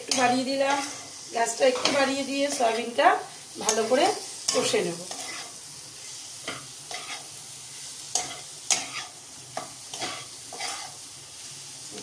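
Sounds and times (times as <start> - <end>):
food sizzling in a pan: 0.0 - 12.0
stirring scrapes against pan: 0.1 - 2.9, 3.6 - 11.0.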